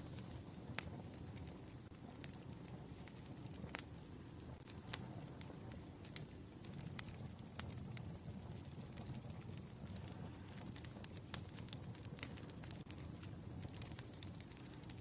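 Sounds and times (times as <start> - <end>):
flame rushing: 0.0 - 15.0
firewood crackling pops: 0.2 - 15.0.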